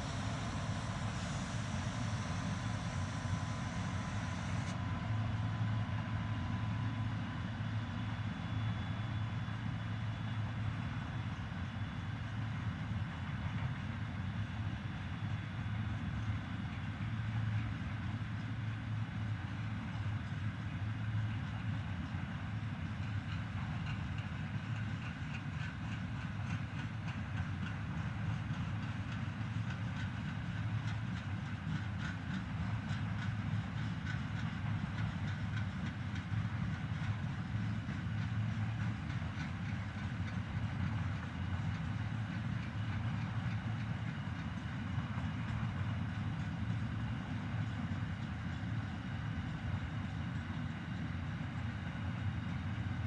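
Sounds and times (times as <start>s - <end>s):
train wheels rumbling: 0.0s - 9.9s, 16.0s - 53.0s.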